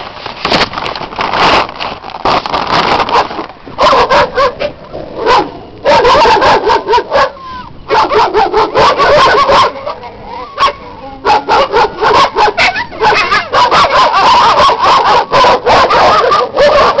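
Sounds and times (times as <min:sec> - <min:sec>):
dogs barking: 0:03.1 - 0:17.0.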